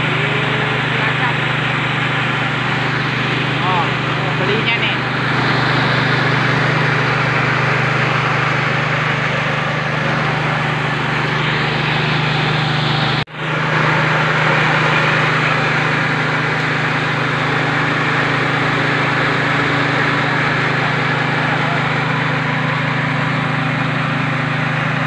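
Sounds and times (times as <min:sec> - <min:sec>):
rice mill machine droning: 0:00.0 - 0:25.0.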